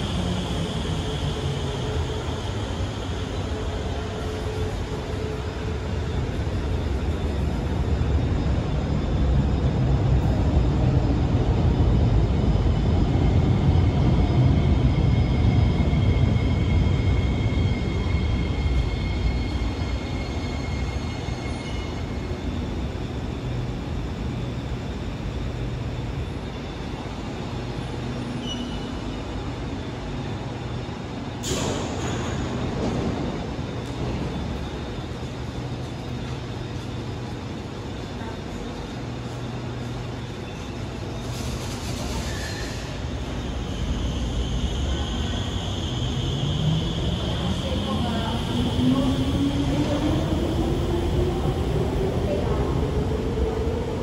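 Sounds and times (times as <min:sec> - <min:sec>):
metro train rumble: 0:00.0 - 0:54.0.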